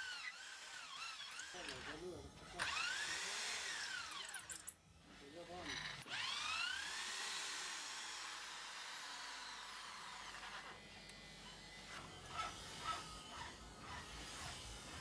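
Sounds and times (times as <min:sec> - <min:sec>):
electric drill whining down: 0:00.0 - 0:04.7, 0:05.5 - 0:15.0.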